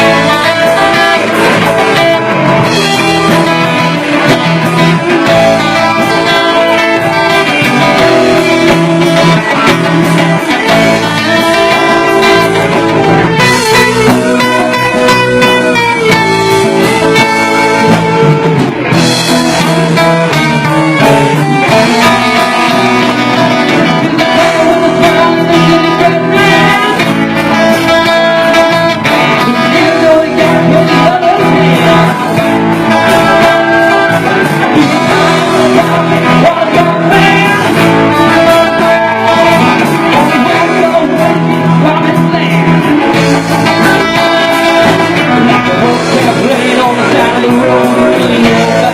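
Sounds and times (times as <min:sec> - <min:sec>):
electric guitar: 0:00.0 - 0:48.9
live band playing: 0:00.0 - 0:48.9.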